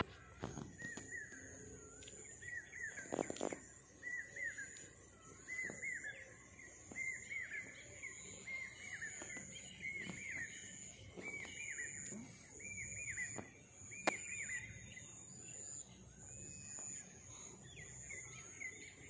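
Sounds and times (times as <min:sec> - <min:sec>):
faint high-pitched whine: 0:00.0 - 0:19.0
small bird chirping: 0:00.0 - 0:19.0.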